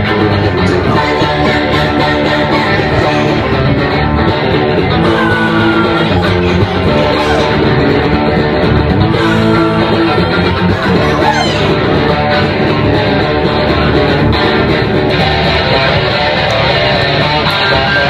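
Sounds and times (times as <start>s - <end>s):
punk rock band playing live: 0.0s - 18.0s.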